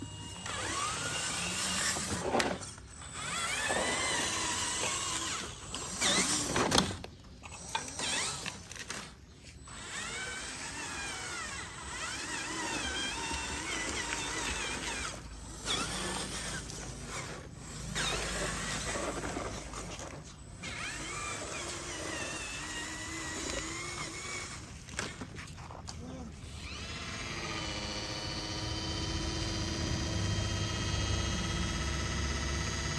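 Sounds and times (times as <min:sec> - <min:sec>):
toy truck motor whine: 0:00.0 - 0:32.9.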